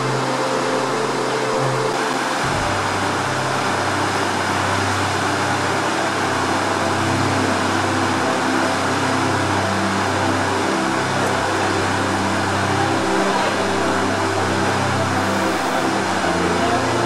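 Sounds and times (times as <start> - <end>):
ship machinery hum: 0.0 - 17.0
wake water rushing: 0.0 - 17.0.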